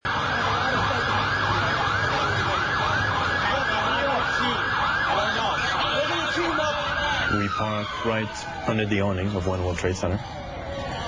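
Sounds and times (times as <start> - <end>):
emergency sirens yelping: 0.0 - 11.0
street noise: 0.0 - 11.0.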